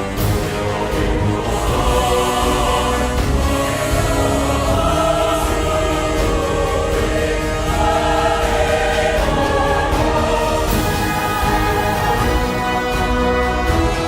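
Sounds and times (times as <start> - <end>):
choir singing held chords: 0.0 - 14.0.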